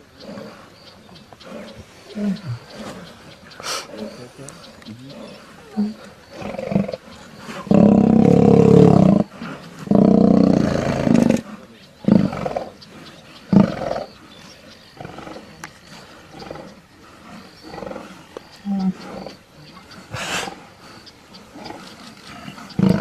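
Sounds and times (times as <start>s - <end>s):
lion grunts: 0.0s - 23.0s
lions growling: 0.0s - 23.0s.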